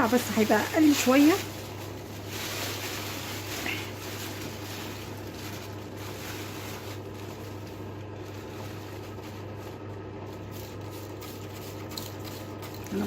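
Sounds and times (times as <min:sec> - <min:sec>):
dust bag rustling and shaking: 0:00.0 - 0:13.0.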